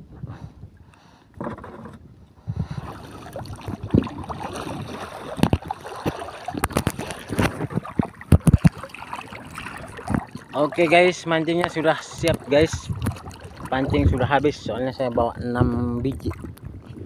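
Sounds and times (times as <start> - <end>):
seawater sloshing: 1.4 - 17.0.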